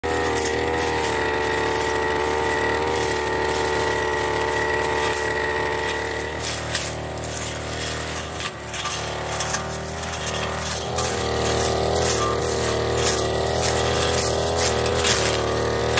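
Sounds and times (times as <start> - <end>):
brush cutter engine running: 0.0 - 15.9
stems striking cutting head: 0.0 - 15.9.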